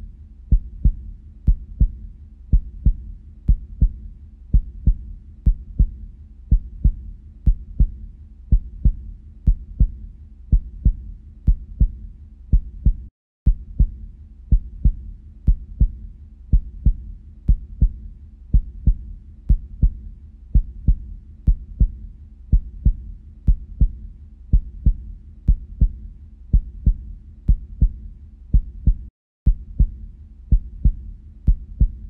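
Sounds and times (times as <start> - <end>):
heartbeat thumps: 0.0 - 32.0.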